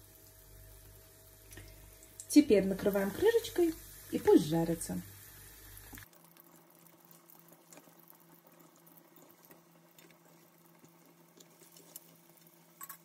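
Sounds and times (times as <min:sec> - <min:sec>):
cutlets sizzling in oil: 0:00.0 - 0:13.0
low steady hum: 0:00.0 - 0:13.0.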